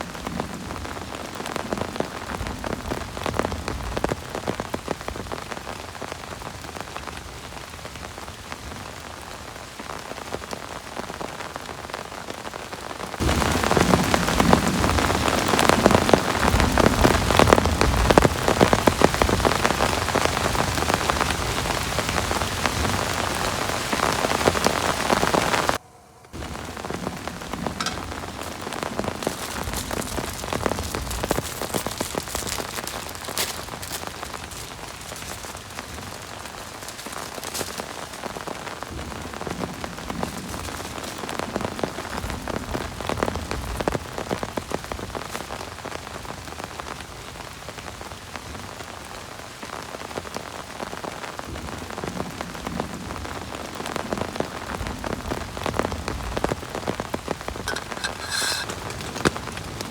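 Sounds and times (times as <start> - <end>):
heavy rain falling: 0.0 - 25.8, 26.4 - 59.9
raindrops tapping near microphone: 0.0 - 25.8, 26.4 - 59.9.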